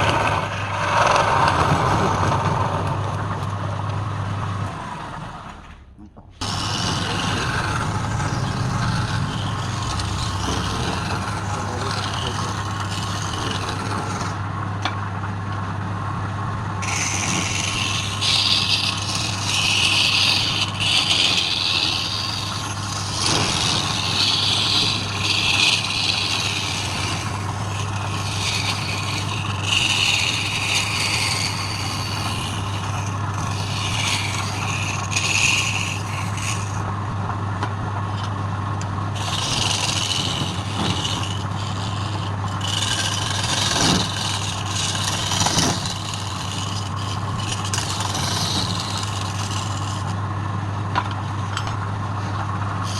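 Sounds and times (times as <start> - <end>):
wood lathe motor hum: 0.0 - 5.7, 6.4 - 52.9
tool scraping spinning wood: 0.0 - 5.8, 6.4 - 52.9.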